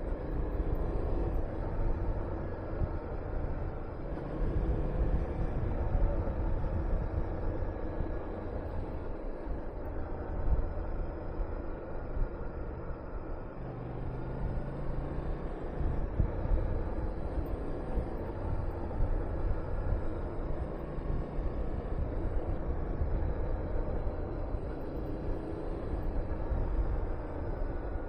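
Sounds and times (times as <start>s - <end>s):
wind rushing over microphone: 0.0s - 11.4s, 15.3s - 28.0s.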